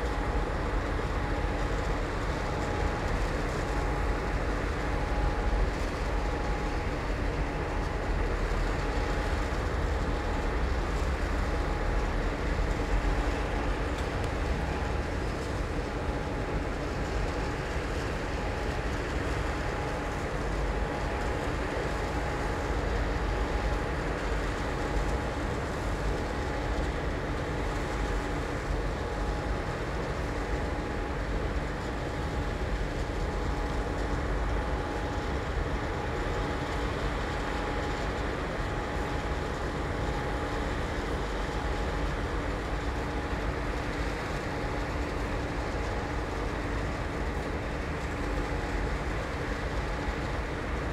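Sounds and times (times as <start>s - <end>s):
steady machine hum tones: 0.0s - 50.9s.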